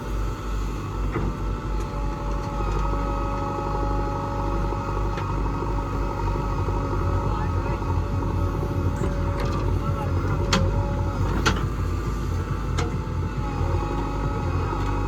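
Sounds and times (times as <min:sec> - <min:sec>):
diesel engine rumbling: 0:00.0 - 0:15.0
engine whine: 0:00.0 - 0:15.0.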